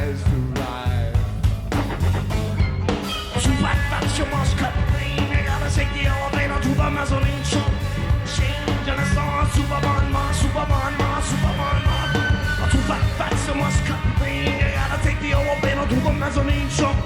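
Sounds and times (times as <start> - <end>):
bass and guitar: 0.0 - 17.0
drum beat: 0.0 - 17.0
person singing: 2.9 - 17.0.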